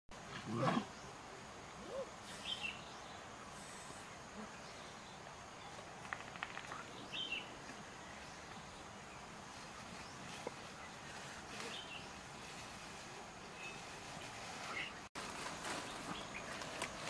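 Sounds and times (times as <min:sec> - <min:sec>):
faint outdoor background: 0:00.1 - 0:17.0.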